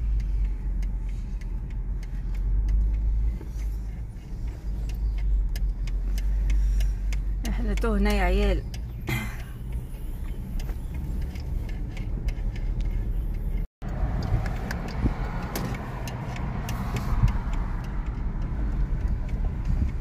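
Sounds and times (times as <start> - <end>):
car engine and tyre rumble: 0.0 - 20.0
tyres crackling on loose ground: 0.0 - 20.0.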